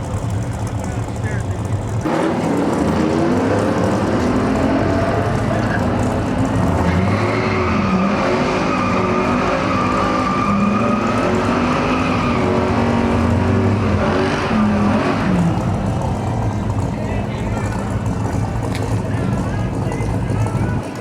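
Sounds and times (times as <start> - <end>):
car engine at high revs: 0.0 - 21.0
tyres squealing: 2.5 - 21.0.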